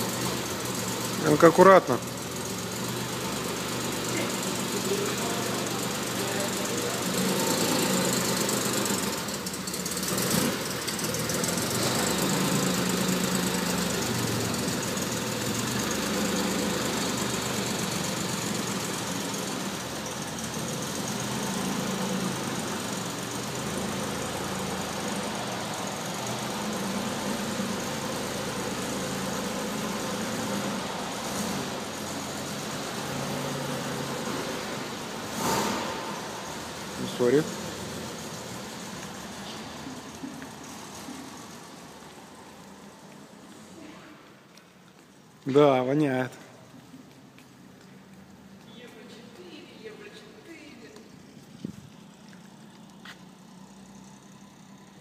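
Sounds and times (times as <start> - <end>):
car engine at low revs: 0.0 - 44.3, 50.6 - 55.0.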